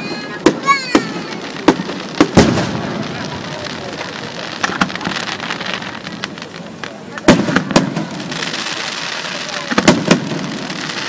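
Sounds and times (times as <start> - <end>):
firework crackle: 0.0 - 11.0
firework shells bursting: 0.0 - 11.0.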